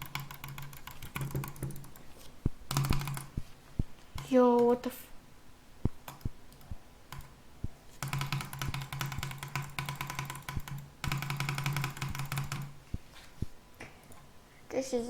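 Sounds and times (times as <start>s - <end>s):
computer mouse clicking: 0.0s - 4.8s, 5.9s - 14.2s
steady buzzing hum: 0.0s - 15.0s.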